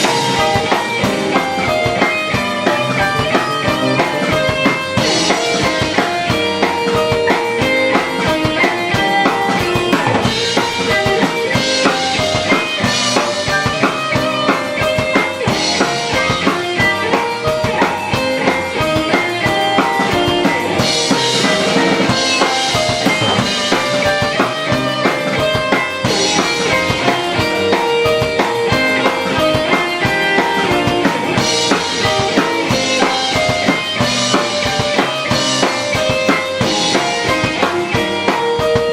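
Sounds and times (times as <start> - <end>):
band playing drums and guitar: 0.0 - 38.9.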